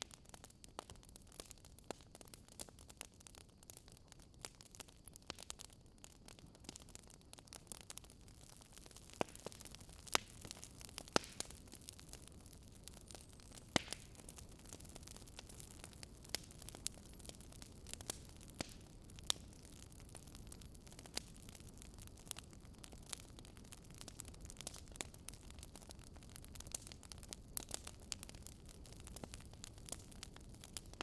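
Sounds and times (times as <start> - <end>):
low steady hiss: 0.0 - 31.0
wood fire crackling: 0.0 - 31.0.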